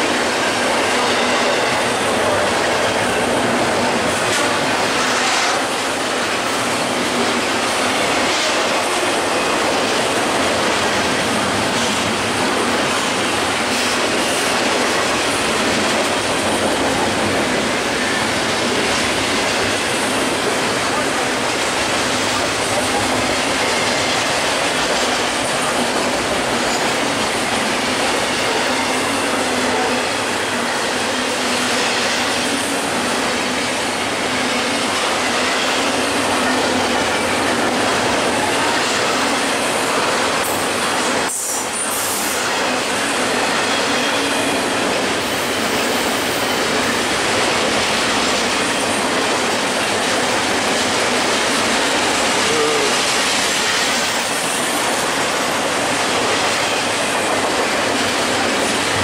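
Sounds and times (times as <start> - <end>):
steel wheels running on rails: 0.0 - 59.0.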